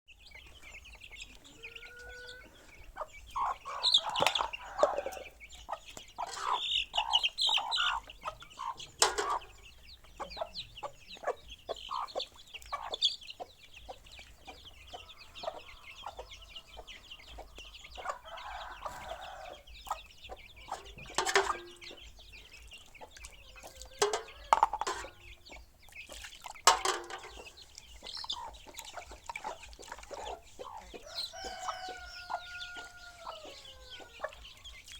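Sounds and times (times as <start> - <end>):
chickens clucking: 0.1 - 34.9.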